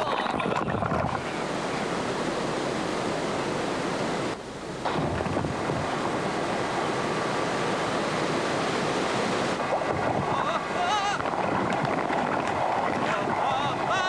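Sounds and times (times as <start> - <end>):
river water rushing over rapids: 0.0 - 14.0.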